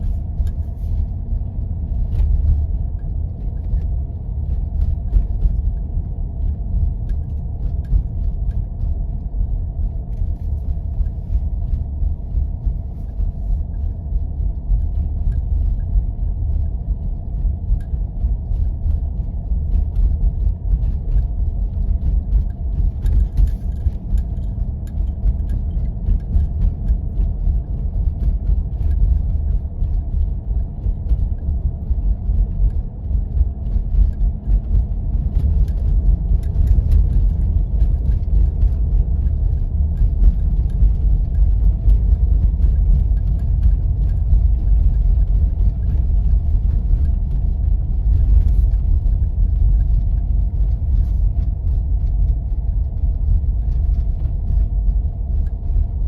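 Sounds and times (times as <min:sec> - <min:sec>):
vehicle driving on snow: 0:00.0 - 0:56.0.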